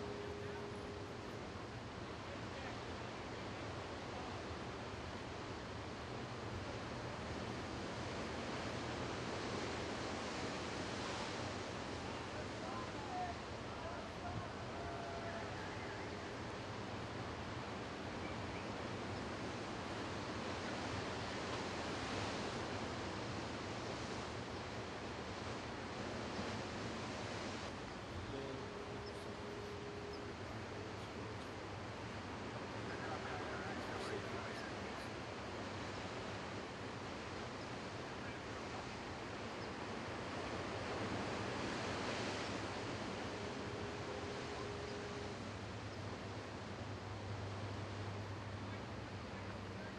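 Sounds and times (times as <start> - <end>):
low steady hum: 0.0 - 49.9
steady outdoor rushing noise: 0.0 - 49.9.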